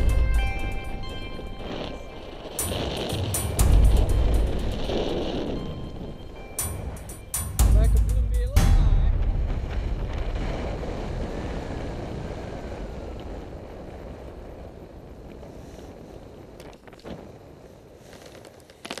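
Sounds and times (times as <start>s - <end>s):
wind rushing over microphone: 0.0s - 7.2s, 8.6s - 18.6s.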